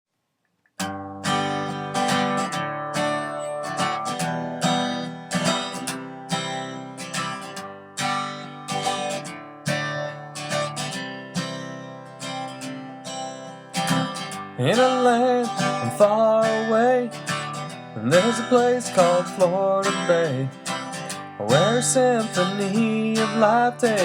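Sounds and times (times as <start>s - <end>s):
guitar strumming chords: 0.8s - 24.0s.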